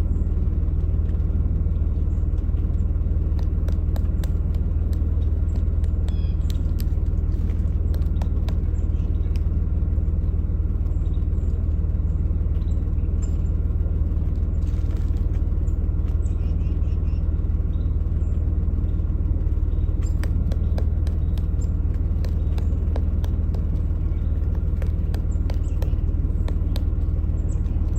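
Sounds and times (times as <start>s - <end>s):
low steady rumble: 0.0s - 27.9s
woodpecker tapping wood: 0.8s - 10.2s, 12.6s - 16.6s, 18.8s - 27.9s.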